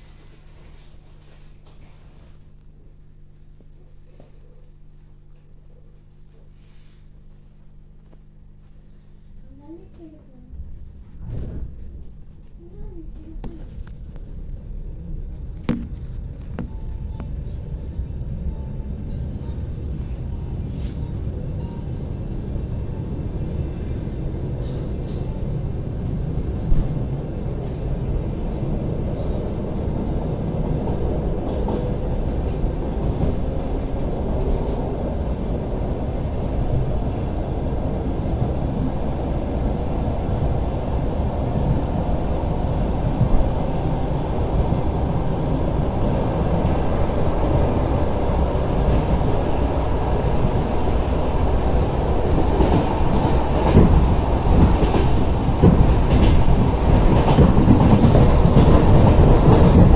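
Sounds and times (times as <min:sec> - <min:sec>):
train wheels rumbling: 0:09.5 - 0:59.9.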